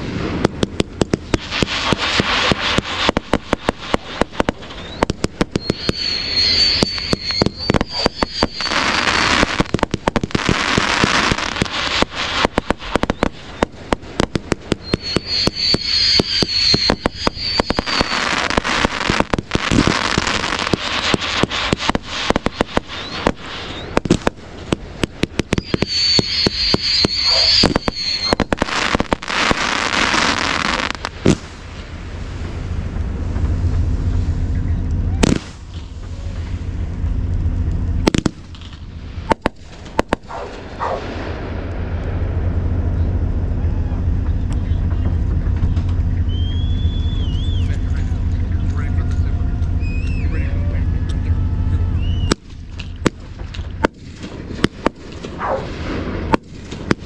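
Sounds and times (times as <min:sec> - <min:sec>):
high rising hiss: 0:00.0 - 0:53.4
fireworks popping and crackling: 0:00.0 - 0:57.0
loud firework bangs: 0:00.0 - 0:57.0
low rumble: 0:00.0 - 0:57.0.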